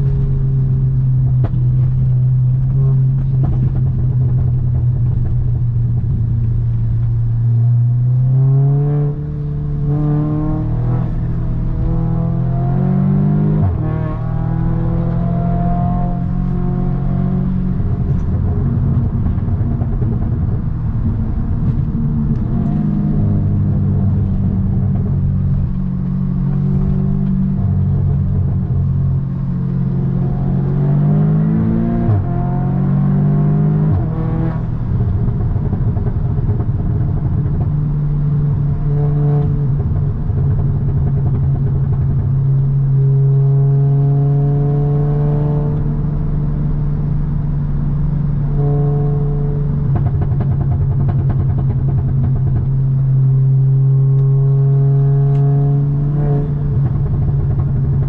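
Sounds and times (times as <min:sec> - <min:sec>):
car engine and exhaust running: 0:00.0 - 0:58.0.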